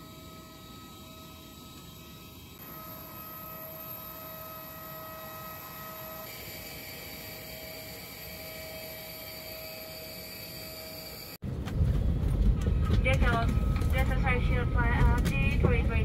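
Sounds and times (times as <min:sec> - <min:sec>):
jet turbines whining: 0:00.0 - 0:16.0.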